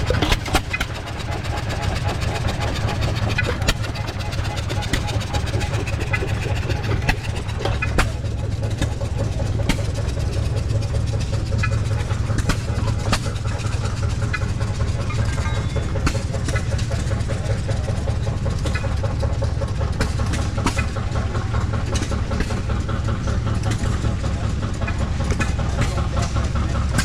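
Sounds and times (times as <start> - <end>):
engine humming: 0.0 - 27.0
sharp clicks and knocks: 0.0 - 27.0.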